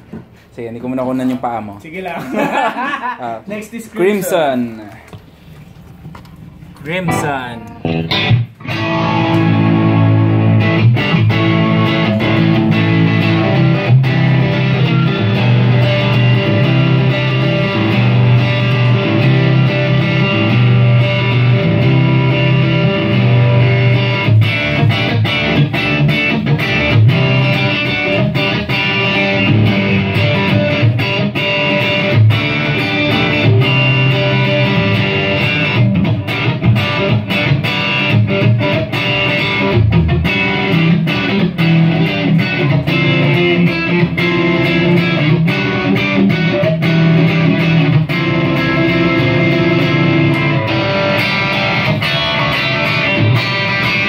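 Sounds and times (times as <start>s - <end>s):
electric guitar playing: 5.4s - 54.0s.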